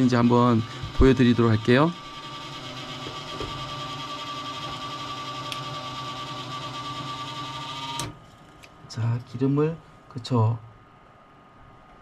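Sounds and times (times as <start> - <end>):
cooling fan whine and hum: 0.0 - 12.0.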